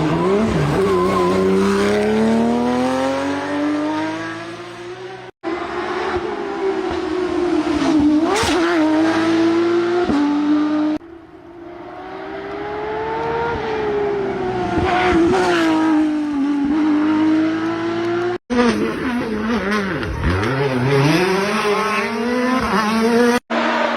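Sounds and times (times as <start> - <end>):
rally car engines revving high: 0.0 - 23.9.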